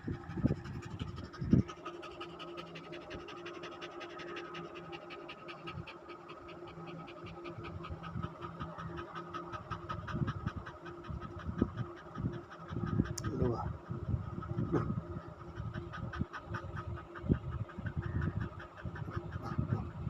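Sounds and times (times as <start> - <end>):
dog panting fast: 0.0 - 20.0.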